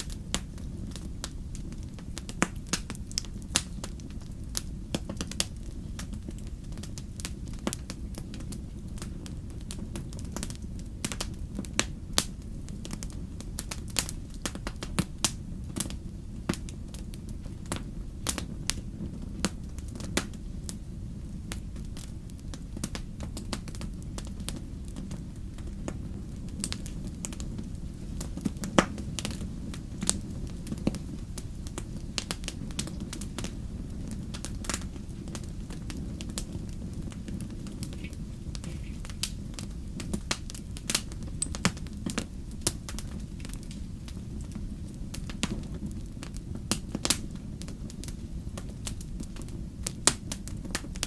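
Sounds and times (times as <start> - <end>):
low rumble of flames: 0.0 - 51.0
wood fire crackling and popping: 0.0 - 51.0.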